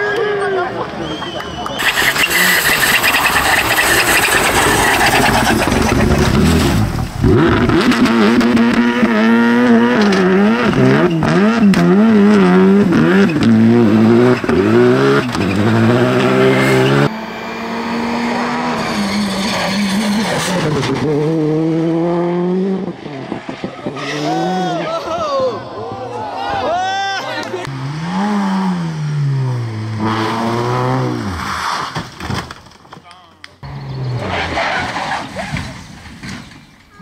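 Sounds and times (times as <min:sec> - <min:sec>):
rally car engines revving hard: 0:01.8 - 0:25.9, 0:27.5 - 0:31.9, 0:33.6 - 0:36.3.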